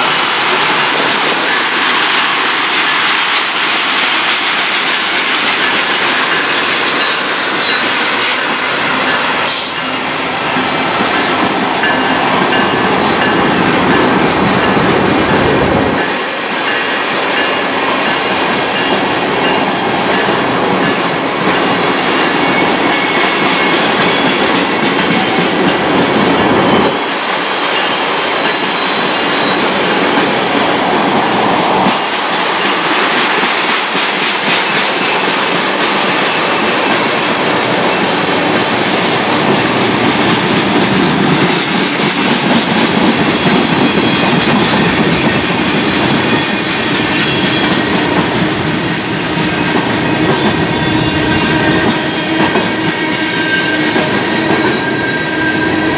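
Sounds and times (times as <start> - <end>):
freight train cars rolling: 0.0 - 55.9.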